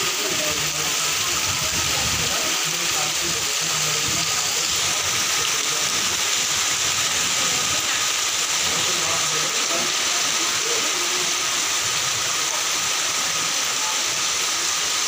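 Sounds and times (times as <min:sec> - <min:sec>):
heavy rain hiss: 0:00.0 - 0:15.0
rainwater running along street: 0:00.0 - 0:15.0.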